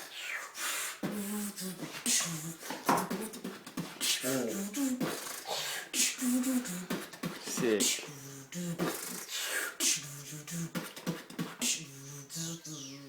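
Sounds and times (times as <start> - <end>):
man beatboxing: 1.0 - 13.0.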